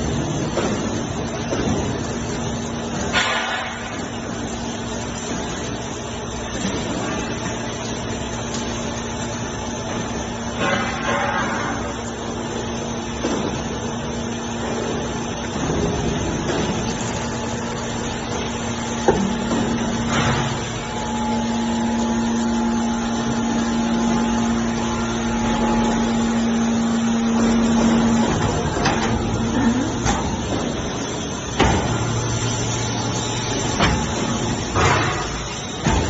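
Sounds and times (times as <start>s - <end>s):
baler machine running: 0.0s - 36.0s.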